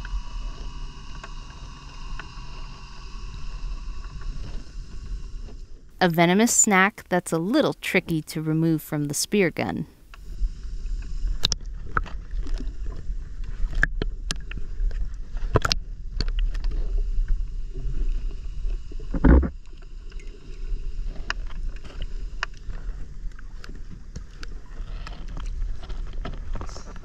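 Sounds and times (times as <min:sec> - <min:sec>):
steady low rumble: 0:00.0 - 0:08.7, 0:09.8 - 0:24.6.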